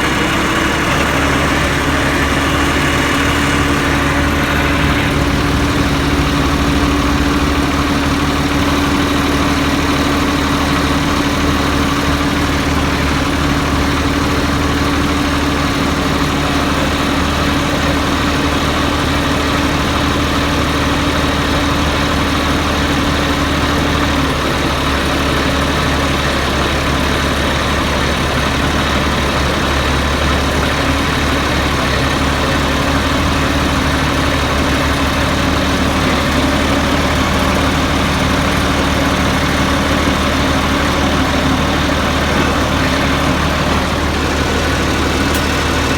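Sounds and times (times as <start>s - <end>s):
tractor engine idling: 0.0s - 45.9s.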